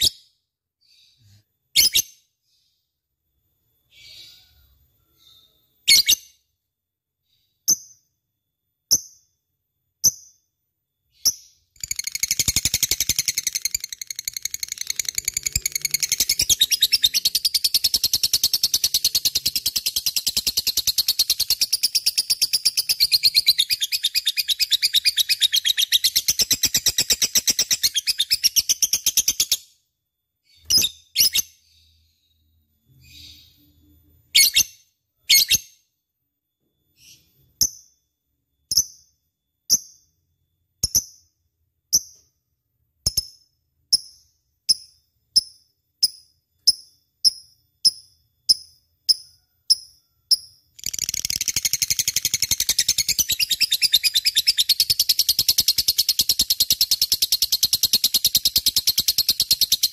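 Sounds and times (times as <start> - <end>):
lovebird chirping: 0.0 - 2.4, 3.8 - 6.6, 10.0 - 29.8, 30.4 - 36.0, 36.6 - 42.3, 43.0 - 59.9.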